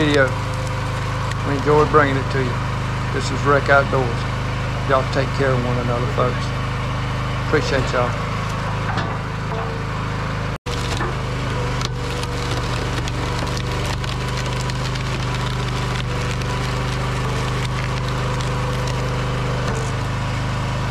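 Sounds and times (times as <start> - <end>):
wood cracking and splintering: 0.0 - 5.6, 6.6 - 20.9
log splitter engine running: 0.0 - 20.9.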